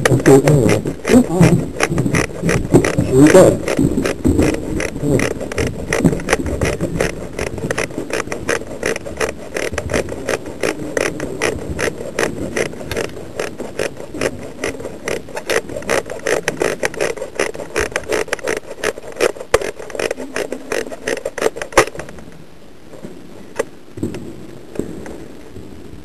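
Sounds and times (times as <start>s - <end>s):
rapid sharp clicks and knocks: 0.0s - 22.2s.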